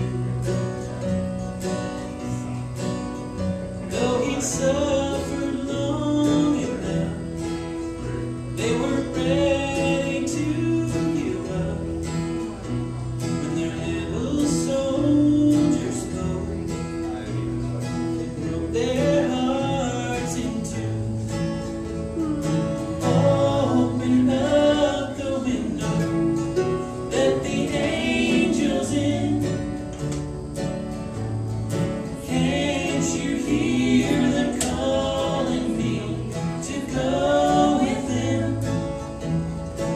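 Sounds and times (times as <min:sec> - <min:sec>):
harmony vocals singing: 0:00.0 - 0:01.4, 0:03.5 - 0:16.9, 0:18.3 - 0:21.3, 0:22.0 - 0:30.6, 0:31.8 - 0:39.9
bluegrass band playing: 0:00.0 - 0:39.9.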